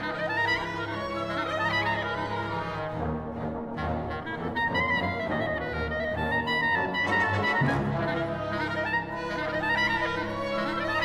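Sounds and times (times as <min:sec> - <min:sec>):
orchestra strings and brass: 0:00.0 - 0:11.0
solo clarinet melody: 0:00.0 - 0:11.0.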